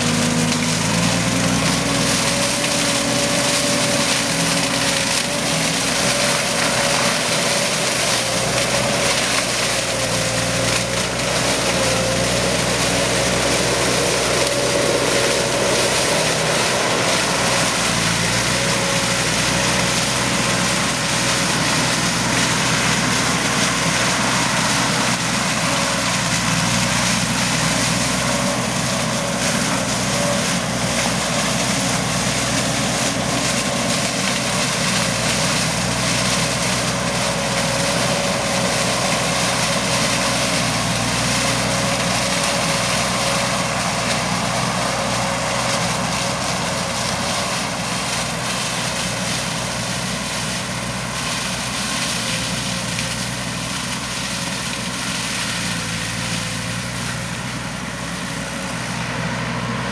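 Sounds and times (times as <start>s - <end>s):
diesel engine under load: 0.0s - 59.9s
mulcher shredding brush: 0.0s - 59.9s.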